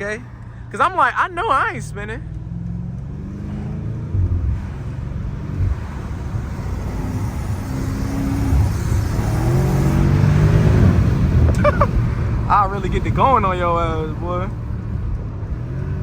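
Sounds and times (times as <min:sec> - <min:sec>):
car engine accelerating: 0:01.3 - 0:16.0.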